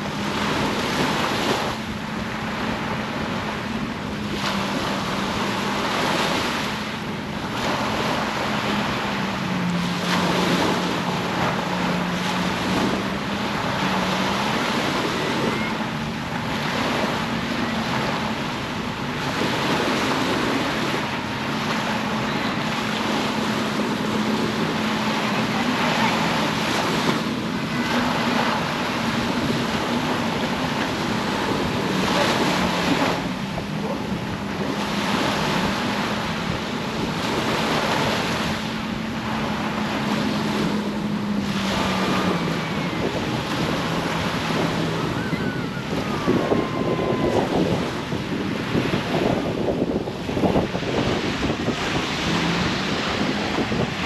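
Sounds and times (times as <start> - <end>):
low engine hum: 0.0 - 54.0
sea surf on beach: 0.0 - 54.0.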